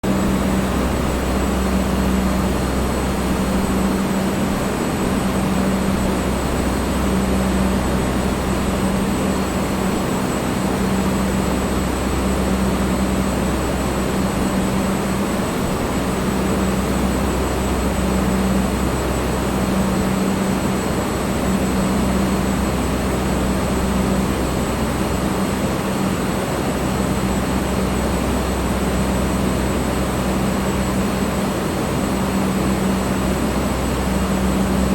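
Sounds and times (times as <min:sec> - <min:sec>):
electric fan blowing air: 0:00.0 - 0:34.9.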